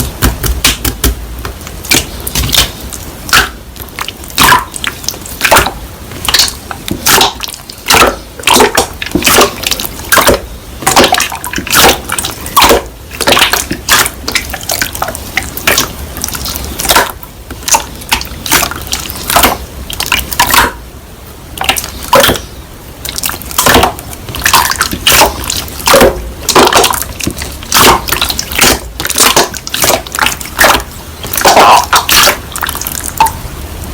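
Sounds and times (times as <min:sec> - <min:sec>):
slime squishing by hand: 0:00.0 - 0:20.8, 0:21.5 - 0:33.9.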